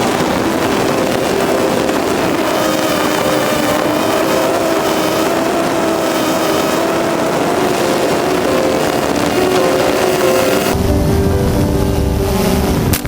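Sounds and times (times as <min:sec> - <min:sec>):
quadcopter buzzing whine: 0:00.0 - 0:13.0.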